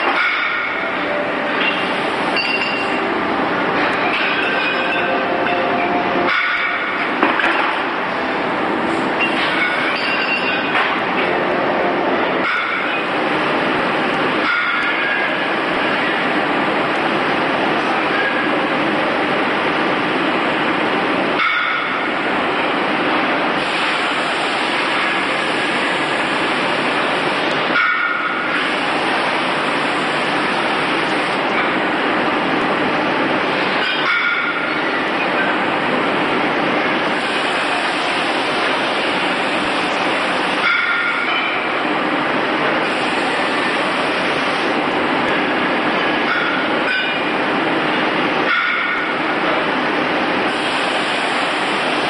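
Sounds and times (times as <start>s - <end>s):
industrial machinery running: 0.0s - 52.0s.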